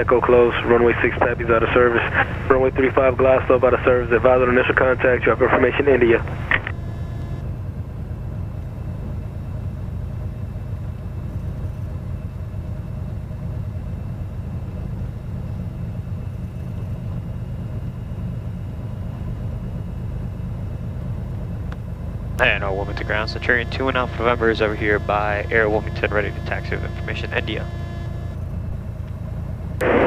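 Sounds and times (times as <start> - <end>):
aircraft piston engine idling: 0.0 - 30.0.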